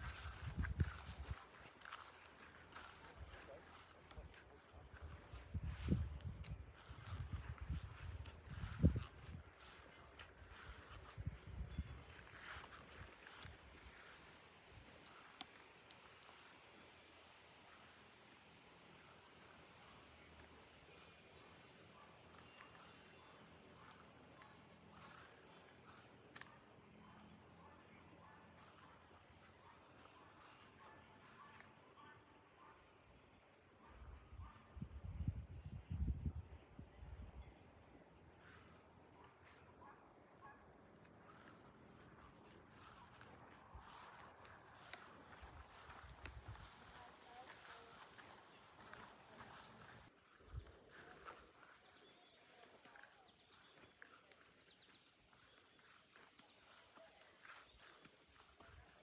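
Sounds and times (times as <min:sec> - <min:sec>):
faint footsteps on a path: 0:00.0 - 0:33.1, 0:34.1 - 0:59.0.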